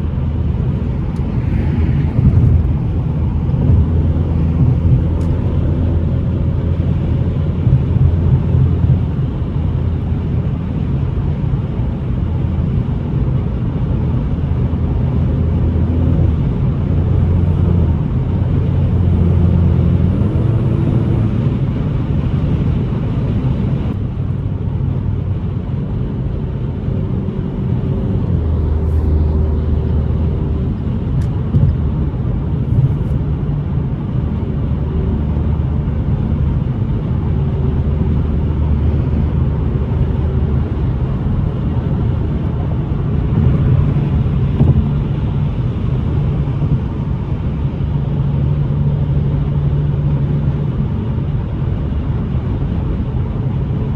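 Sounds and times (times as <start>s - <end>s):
car engine running: 0.0s - 53.9s
road rumble: 0.0s - 53.9s.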